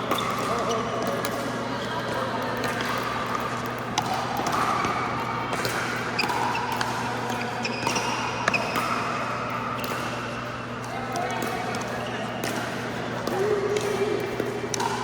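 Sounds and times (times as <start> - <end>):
indoor court noise: 0.0 - 15.0.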